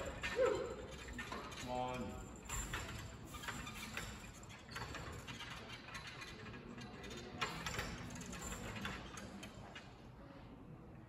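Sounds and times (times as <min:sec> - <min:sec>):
faint gym room noise: 0:00.0 - 0:11.0.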